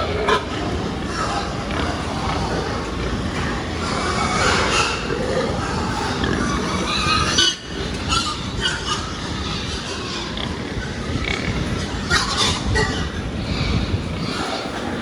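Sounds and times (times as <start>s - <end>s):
pigs squealing and grunting: 0.0s - 15.0s.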